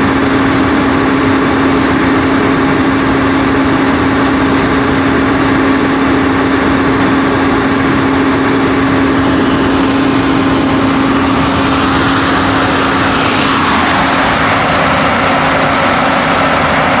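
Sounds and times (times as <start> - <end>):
diesel generator engine humming: 0.0 - 17.0.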